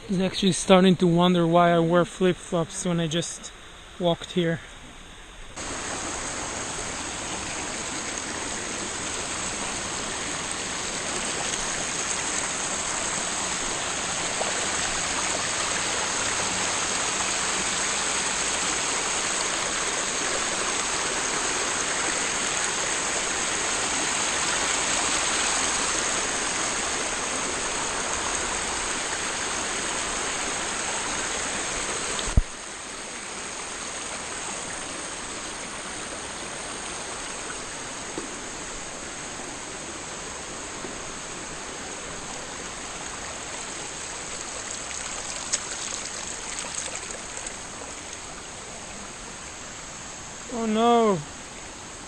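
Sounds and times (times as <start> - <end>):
rushing river water: 5.6 - 52.0.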